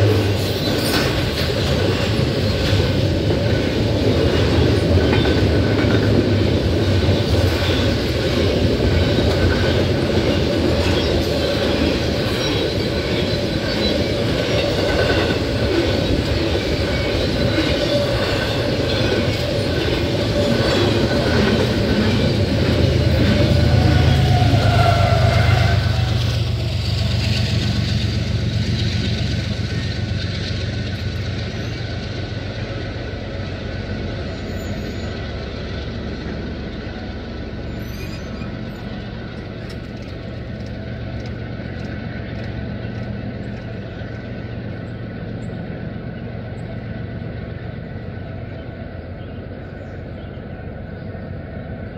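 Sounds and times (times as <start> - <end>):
freight train rumble: 0.0 - 51.9.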